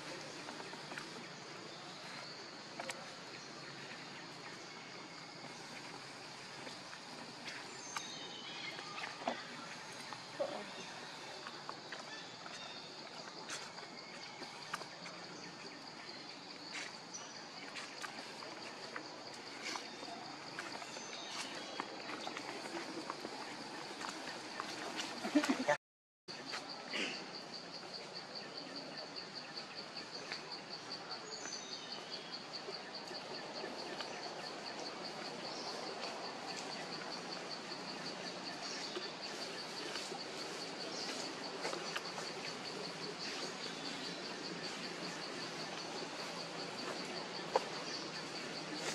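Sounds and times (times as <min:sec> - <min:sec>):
forest ambience: 0:00.0 - 0:48.9.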